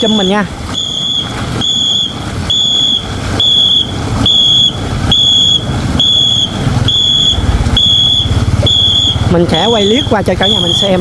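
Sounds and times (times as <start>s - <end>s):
short high whistle blasts: 0.7s - 11.0s.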